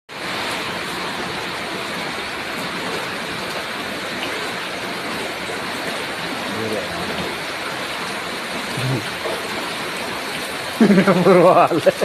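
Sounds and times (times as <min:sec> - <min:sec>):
floodwater rushing: 0:00.1 - 0:12.0
heavy rain pouring: 0:00.1 - 0:12.0.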